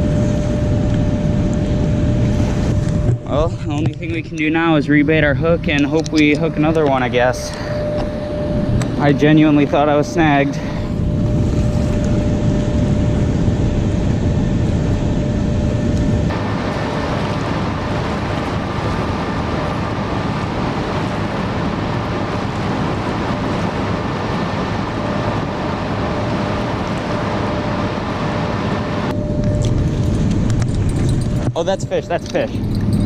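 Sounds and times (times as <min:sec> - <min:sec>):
low outdoor rumble and hiss: 0:03.2 - 0:33.0.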